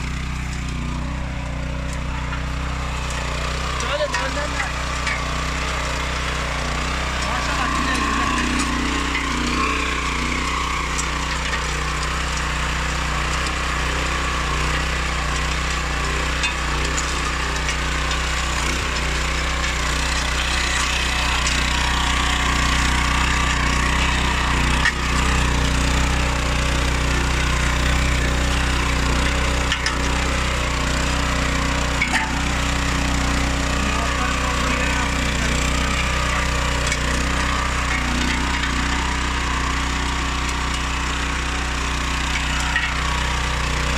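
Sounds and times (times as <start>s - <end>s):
small petrol engine running: 0.0s - 43.9s.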